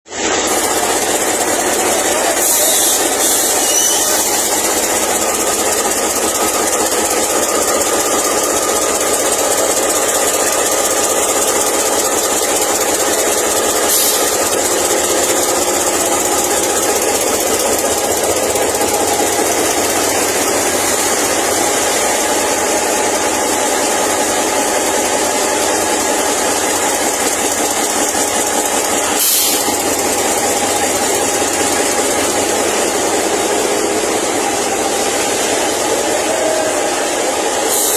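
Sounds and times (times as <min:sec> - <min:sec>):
diesel locomotive idling: 0:00.1 - 0:37.9.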